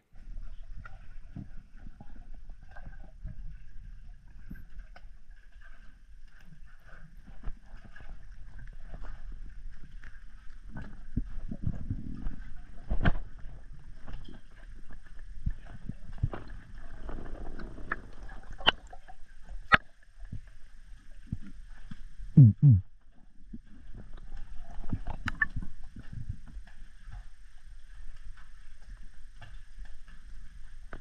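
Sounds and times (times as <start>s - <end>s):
muffled underwater crackle: 0.0s - 31.0s.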